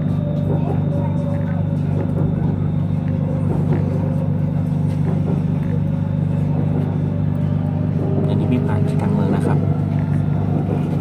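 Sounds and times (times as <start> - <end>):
train car running hum: 0.0 - 11.0.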